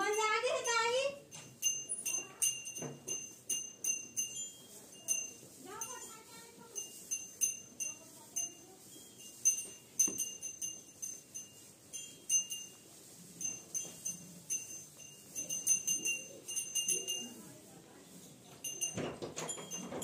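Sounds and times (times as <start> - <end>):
small cattle bells tinkling: 0.0 - 20.0.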